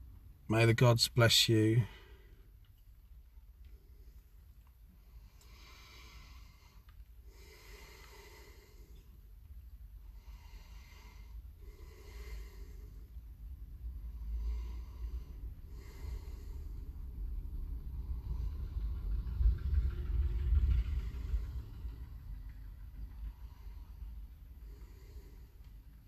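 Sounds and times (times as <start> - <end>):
low rumble: 1.9 - 26.0
man breathing heavily: 5.0 - 26.0.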